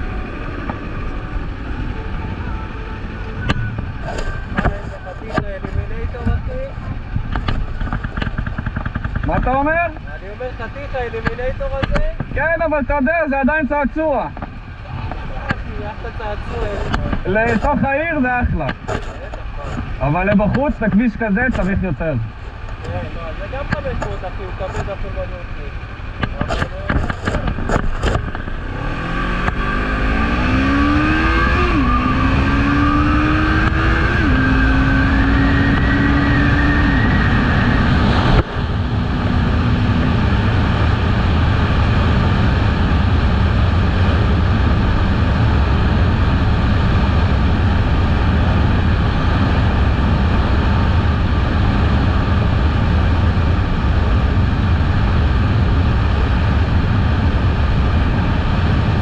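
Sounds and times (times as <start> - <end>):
motorcycle engine accelerating: 0.0 - 12.4, 14.3 - 59.0
wind rumble on microphone: 0.0 - 59.0.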